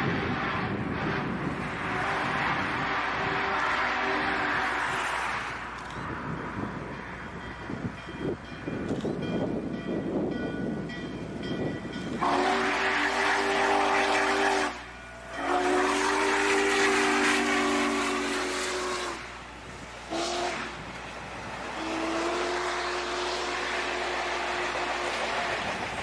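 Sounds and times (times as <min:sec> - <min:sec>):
steam locomotive chime whistle: 0:00.0 - 0:20.9, 0:21.6 - 0:25.7
running train noise: 0:00.0 - 0:26.0.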